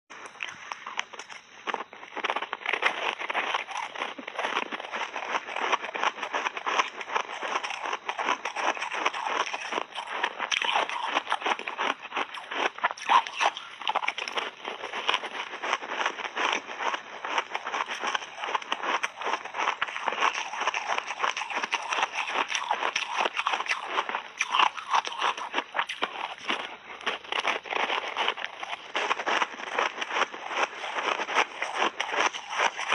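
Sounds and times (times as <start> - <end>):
ice crunched between teeth: 0.2 - 32.9.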